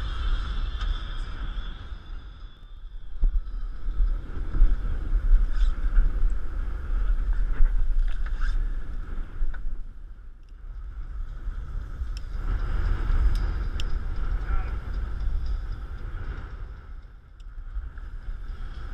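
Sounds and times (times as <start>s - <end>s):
wind buffeting the microphone: 0.0s - 18.9s.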